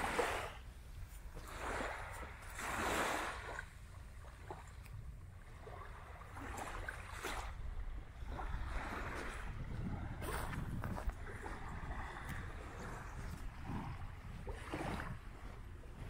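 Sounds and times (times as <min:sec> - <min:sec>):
small waves washing onto shore: 0:00.0 - 0:16.0
wind rumble on microphone: 0:00.0 - 0:16.0.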